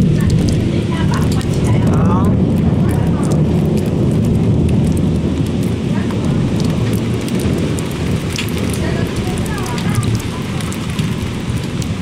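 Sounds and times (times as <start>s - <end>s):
heavy rain pouring: 0.0s - 12.0s
sharp raindrop hits: 0.0s - 12.0s.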